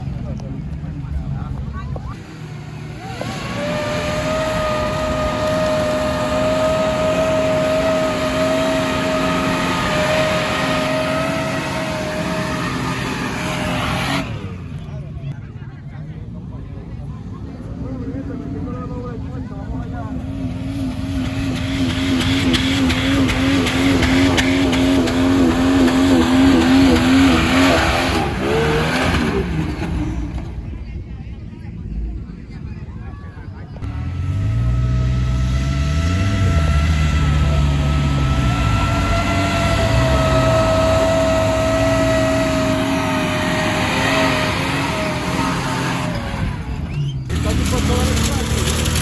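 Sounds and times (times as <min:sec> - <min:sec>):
rough mechanical rumble: 0:00.0 - 0:49.0.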